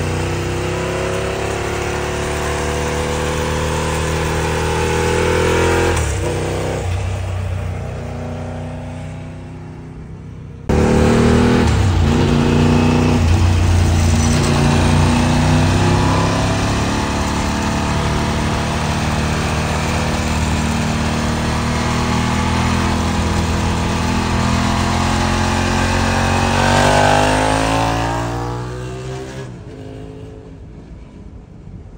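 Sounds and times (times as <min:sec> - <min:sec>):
motorcycle engine running: 0:00.0 - 0:29.2.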